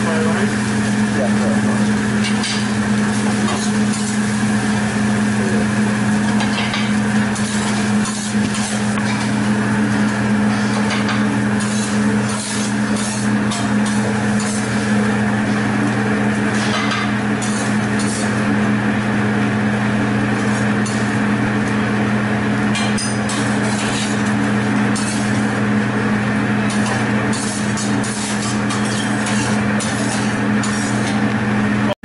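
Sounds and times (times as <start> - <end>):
ventilation hum: 0.0 - 32.0.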